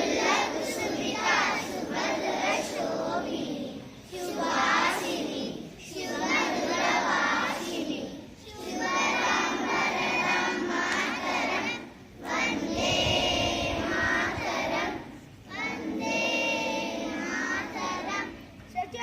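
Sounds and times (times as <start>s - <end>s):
children singing in unison: 0.0s - 18.4s.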